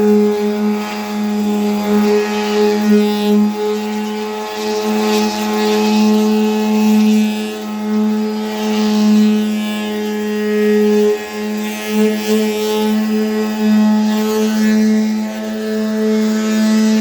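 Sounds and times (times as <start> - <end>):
power sander on painted metal: 0.0 - 17.0.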